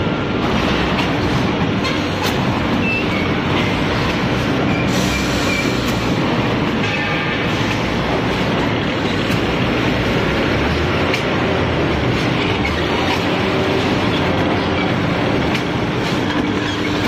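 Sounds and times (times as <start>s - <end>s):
machine conveyors running: 0.0s - 17.0s.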